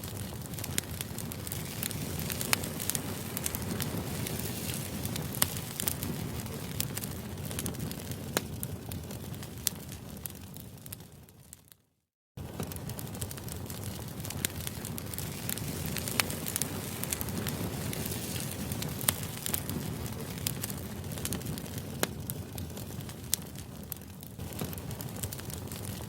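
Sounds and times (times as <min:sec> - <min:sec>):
sharp crackles and clicks: 0:00.0 - 0:11.8, 0:12.4 - 0:26.0.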